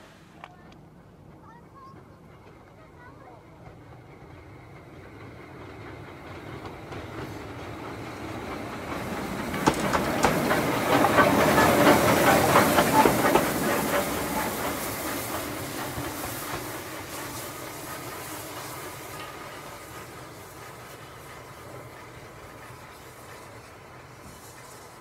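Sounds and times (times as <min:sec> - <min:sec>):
steam hissing: 0:00.0 - 0:00.4, 0:04.7 - 0:25.0
steam locomotive passing: 0:00.0 - 0:25.0
wheels clacking over rail joints: 0:04.0 - 0:25.0.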